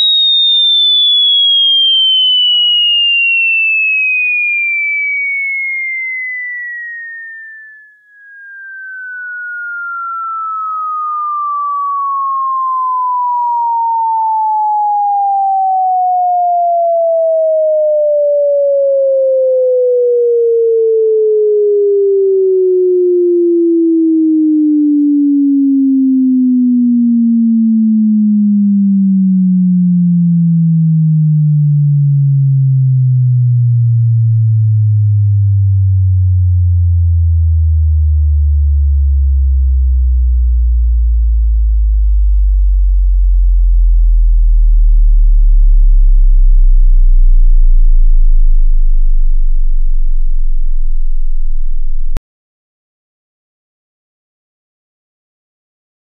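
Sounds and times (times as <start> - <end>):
sine tone gliding downward: 0.0 - 52.2.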